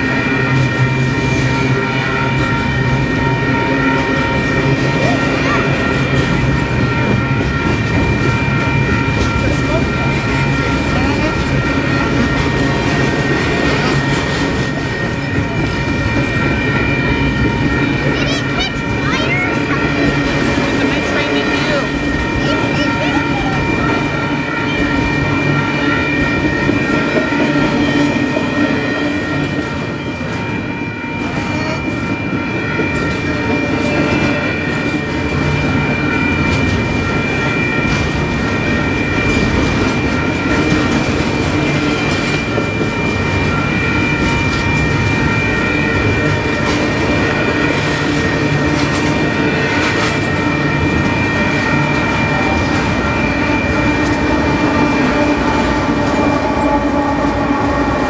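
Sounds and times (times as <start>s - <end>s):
high-pitched ringing tone: 0.0s - 58.0s
train wheels rumbling and clacking: 0.0s - 58.0s.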